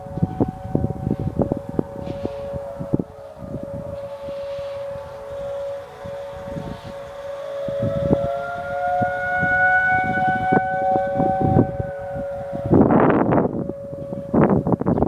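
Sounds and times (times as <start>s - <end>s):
steady siren tone: 0.0s - 15.0s
warning siren wailing: 0.0s - 15.0s
wind buffeting microphone: 0.0s - 15.0s.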